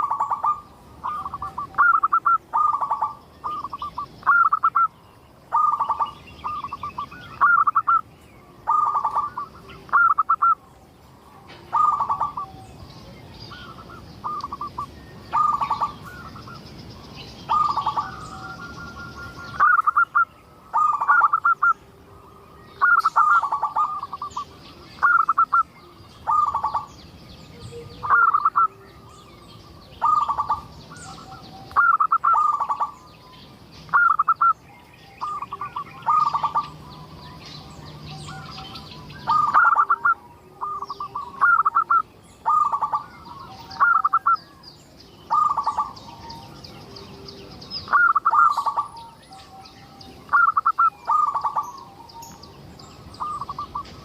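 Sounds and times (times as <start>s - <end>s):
dove cooing: 0.0s - 33.1s, 33.9s - 34.6s, 35.2s - 44.6s, 45.2s - 54.0s
small birds chirping: 0.0s - 54.0s.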